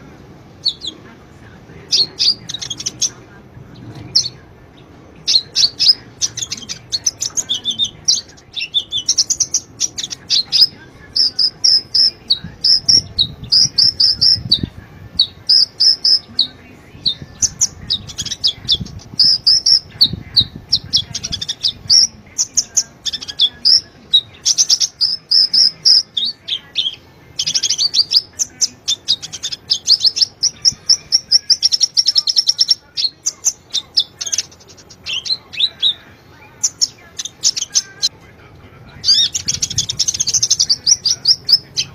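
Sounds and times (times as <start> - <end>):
bird twittering song: 0.0 - 1.1, 1.7 - 38.1, 38.8 - 41.9.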